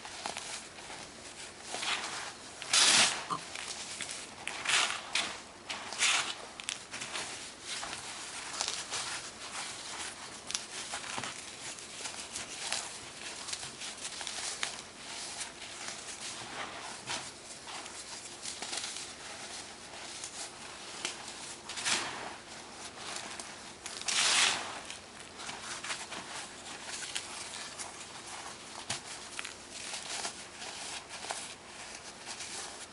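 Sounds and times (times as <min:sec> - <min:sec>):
baking soda crunching: 0:00.0 - 0:32.9.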